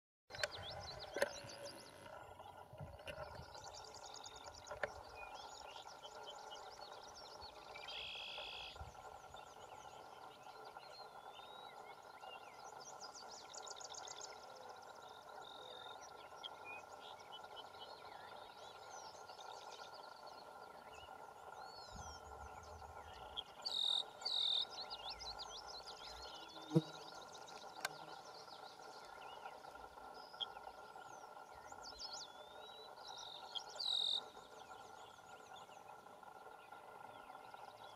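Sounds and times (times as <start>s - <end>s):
small birds singing: 0.3s - 37.9s.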